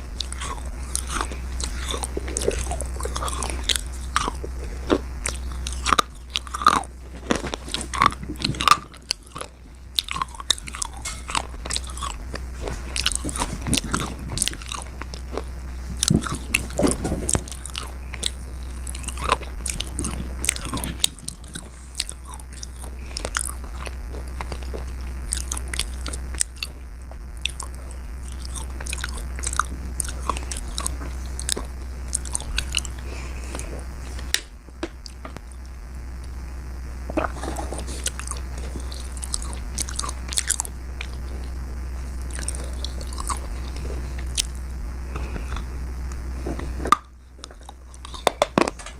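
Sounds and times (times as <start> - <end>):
low hum: 0.0 - 48.9
slate being chewed: 0.0 - 48.9.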